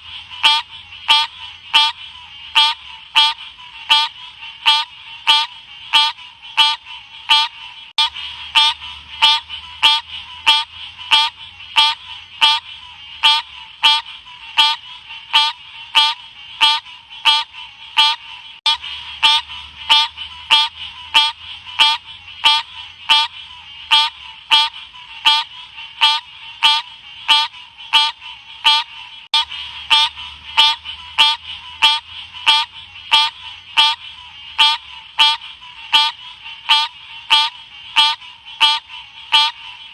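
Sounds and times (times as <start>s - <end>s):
frog chirping calls: 0.0s - 39.9s.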